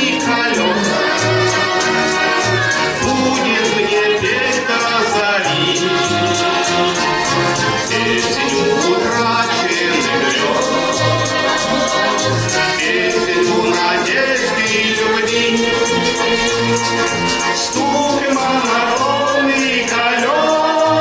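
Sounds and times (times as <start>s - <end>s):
instrumental melody over bass: 0.0s - 21.0s.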